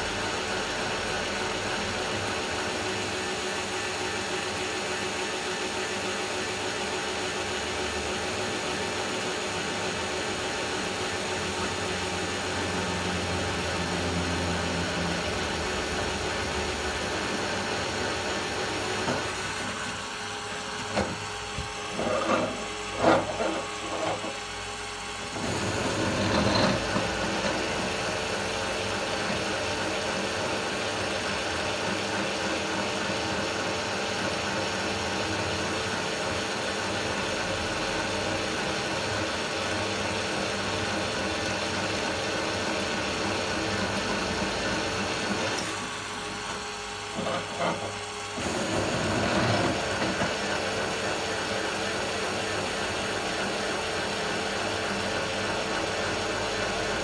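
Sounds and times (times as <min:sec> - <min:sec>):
drill press running: 0:00.0 - 0:57.0
drill cutting metal: 0:01.3 - 0:57.0.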